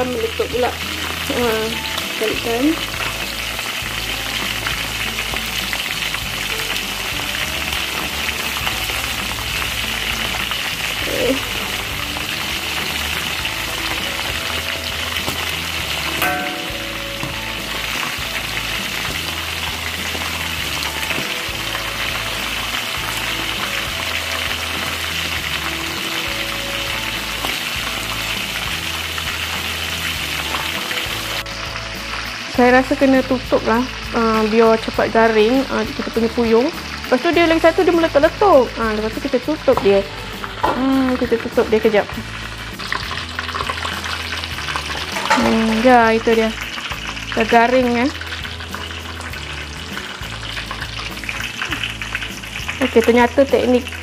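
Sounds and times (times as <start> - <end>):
food deep-frying in oil: 0.0 - 54.0
oil popping and spattering: 0.8 - 32.5, 40.4 - 54.0.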